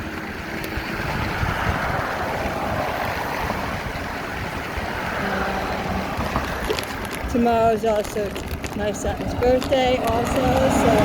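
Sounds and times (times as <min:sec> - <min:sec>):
bike tyre rumble: 0:00.0 - 0:11.0
wind noise on microphone: 0:00.0 - 0:11.0.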